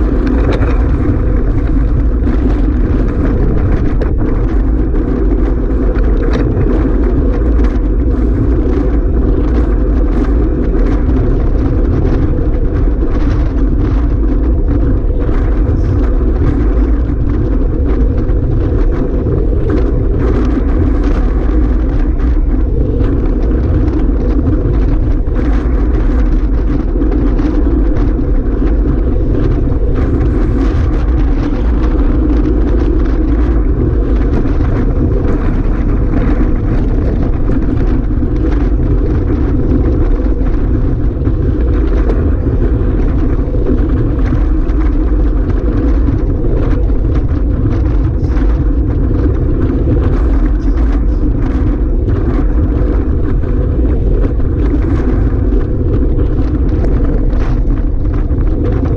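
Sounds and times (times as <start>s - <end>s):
moving vehicle drone: 0.0s - 58.9s
wind on microphone: 0.0s - 58.9s.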